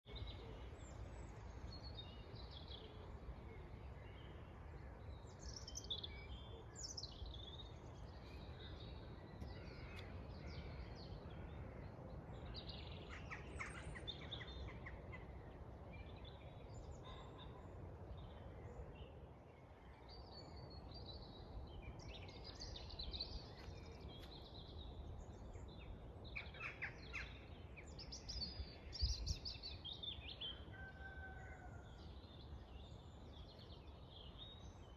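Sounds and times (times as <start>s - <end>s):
birds chirping and trilling: 4.2s - 34.9s.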